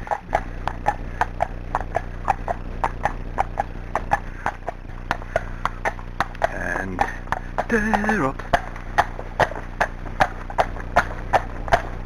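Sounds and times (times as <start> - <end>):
horse hooves trotting on tarmac: 0.0 - 12.0.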